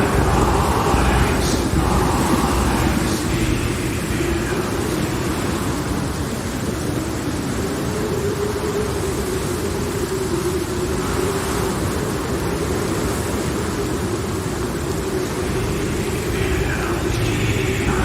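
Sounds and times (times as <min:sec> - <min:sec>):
eerie drone tone: 0:00.0 - 0:18.0
thunderstorm and rain: 0:00.0 - 0:18.0.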